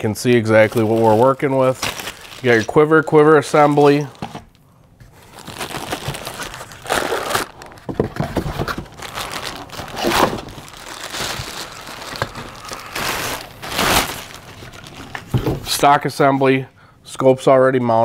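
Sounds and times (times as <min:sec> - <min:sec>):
plastic bag crinkling: 0:00.0 - 0:04.4, 0:05.1 - 0:15.4.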